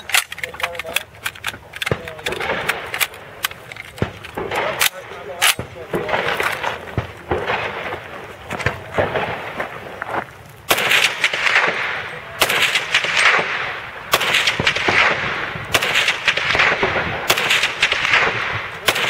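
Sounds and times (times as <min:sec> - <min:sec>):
rifle shots echoing: 0:00.0 - 0:09.9, 0:10.7 - 0:19.0.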